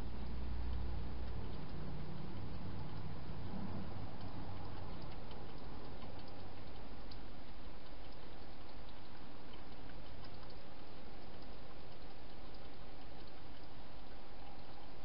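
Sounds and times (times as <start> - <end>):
faint ticks: 0.0 - 15.0
steady microphone hiss: 0.0 - 15.0.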